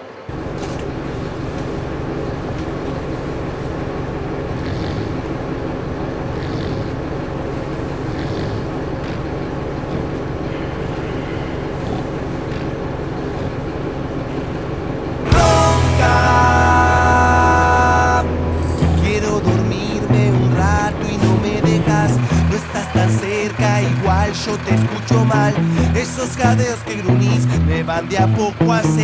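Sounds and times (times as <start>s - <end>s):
moving vehicle running noise: 0.0s - 29.0s.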